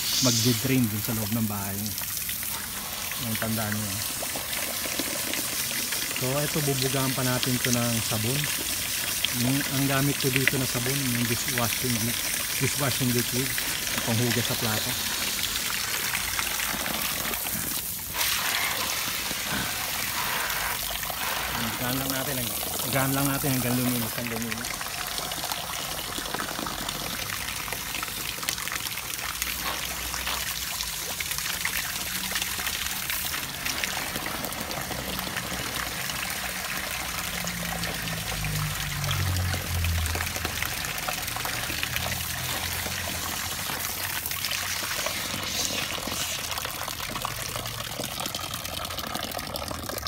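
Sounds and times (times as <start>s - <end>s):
hose nozzle spraying water: 0.0s - 24.7s, 29.2s - 31.3s, 32.4s - 47.4s
water splashing and streaming: 0.0s - 50.0s.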